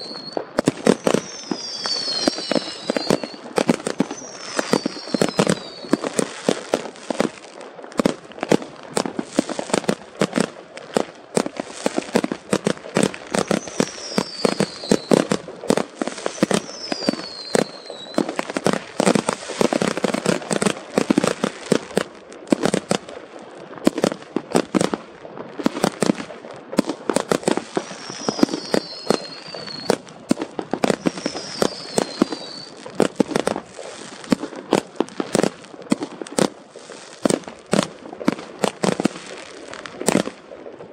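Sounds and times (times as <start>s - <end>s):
falling whistle of fireworks: 0.0s - 10.5s, 11.4s - 23.1s, 25.6s - 40.9s
fireworks bangs and crackling: 0.0s - 40.9s.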